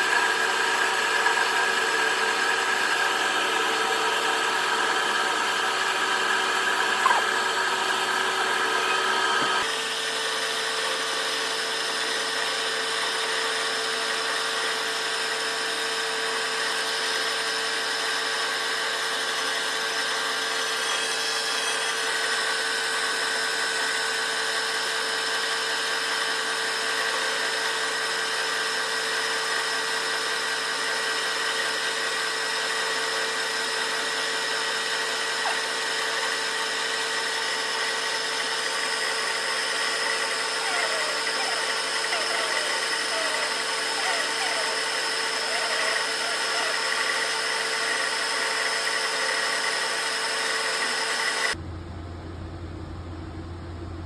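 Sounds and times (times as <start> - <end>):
metal lathe whining: 0.0 - 51.6.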